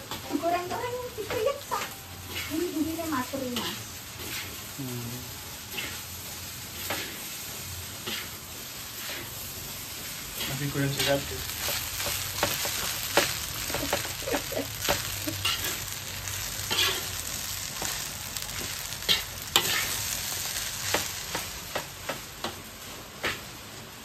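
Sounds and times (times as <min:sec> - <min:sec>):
rice sizzling in a wok: 0:00.0 - 0:24.0
spatula scraping a wok: 0:00.1 - 0:23.6.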